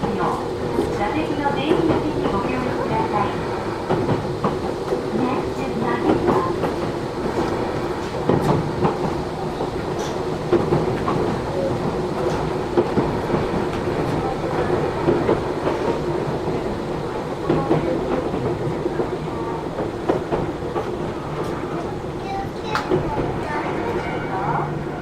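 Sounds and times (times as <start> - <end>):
train rumble and hum: 0.0 - 25.0.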